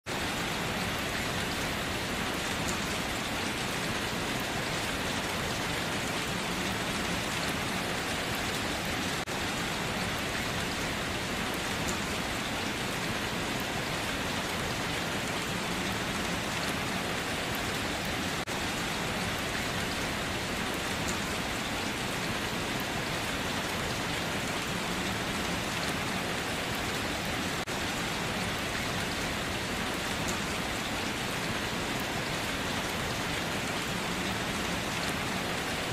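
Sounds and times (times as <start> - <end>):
steady rain falling: 0.1 - 35.9.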